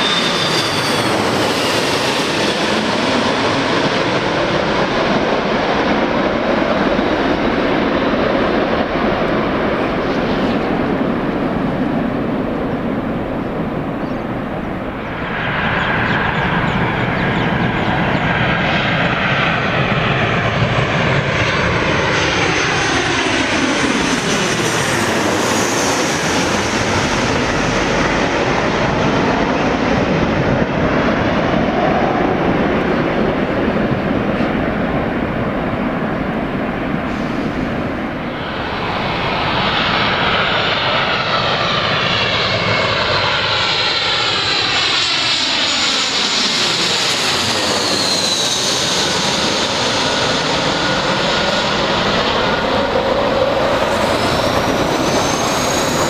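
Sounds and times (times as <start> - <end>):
jet airliner flying overhead: 0.0 - 56.0.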